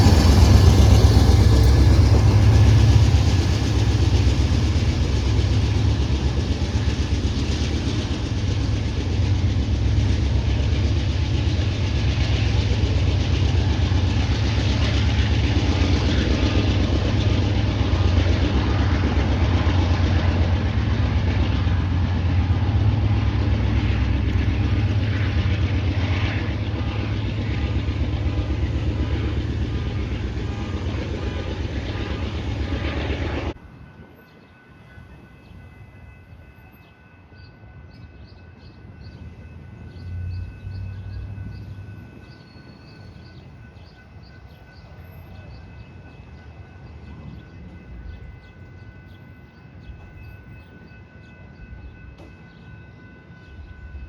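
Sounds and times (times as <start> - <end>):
locomotive engine drone: 0.0 - 54.0
rail cars rumbling and rattling: 0.0 - 54.0.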